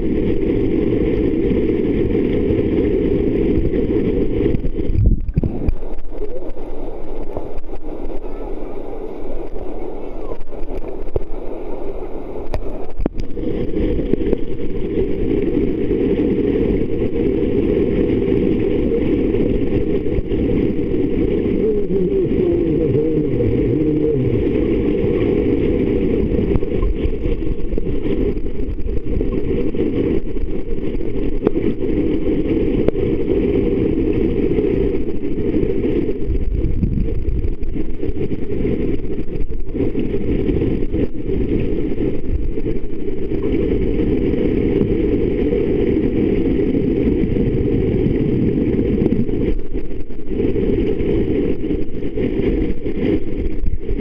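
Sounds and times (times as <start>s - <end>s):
muffled underwater rumble: 0.0s - 54.0s.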